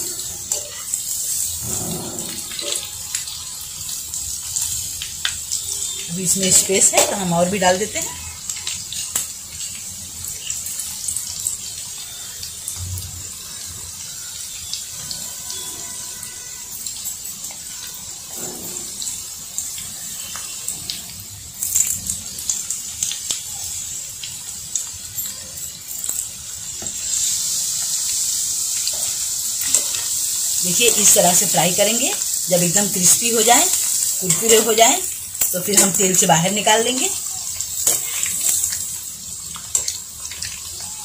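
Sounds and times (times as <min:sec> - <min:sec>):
chicken deep-frying in hot oil: 0:00.0 - 0:41.0.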